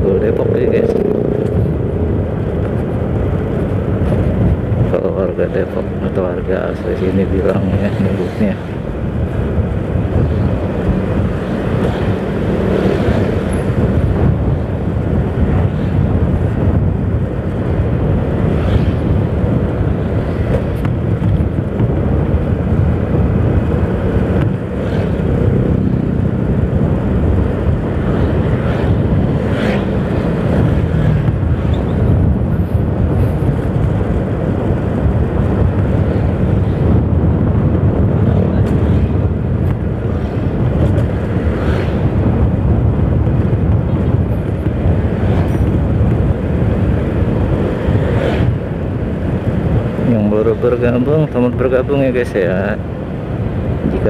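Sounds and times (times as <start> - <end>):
passing traffic: 0.0 - 54.0
road noise: 0.0 - 54.0.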